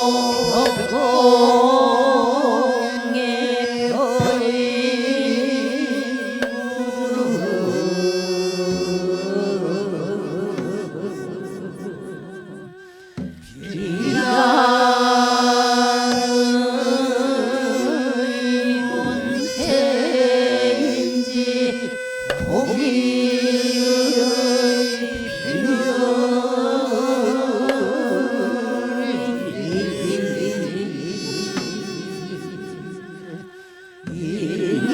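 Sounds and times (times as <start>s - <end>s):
mixed chorus singing: 0.0s - 34.9s.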